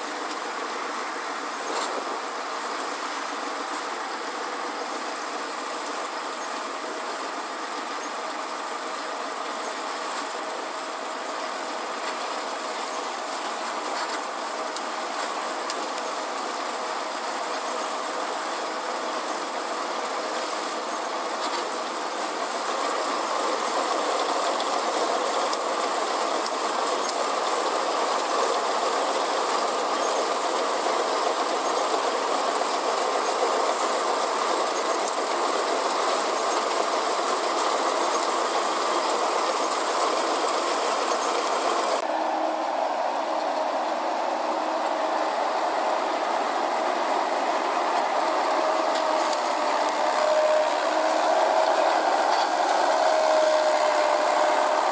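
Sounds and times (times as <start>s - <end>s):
combine harvester clattering: 4.1s - 54.9s.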